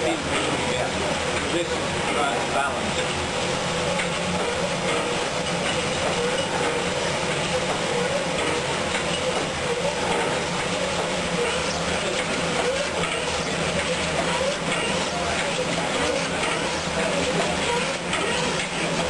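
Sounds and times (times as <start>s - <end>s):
steam engine clattering: 0.0s - 19.0s.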